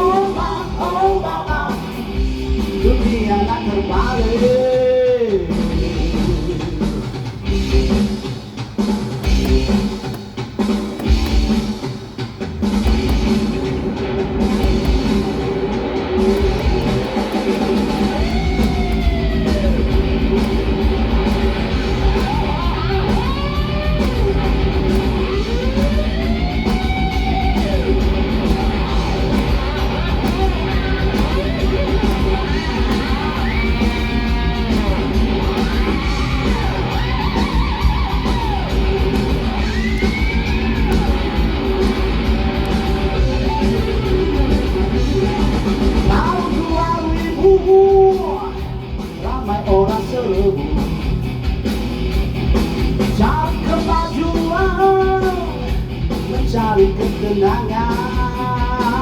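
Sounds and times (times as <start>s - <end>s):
electric guitar lead: 0.0s - 59.0s
rock band playing: 0.0s - 59.0s.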